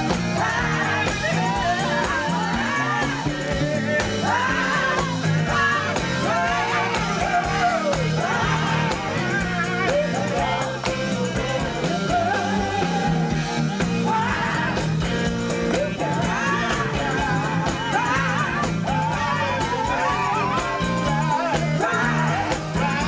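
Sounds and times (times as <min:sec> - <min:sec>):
person singing: 0:00.0 - 0:15.0, 0:15.6 - 0:23.0
bass groove: 0:00.0 - 0:23.0
live band playing: 0:00.0 - 0:23.0.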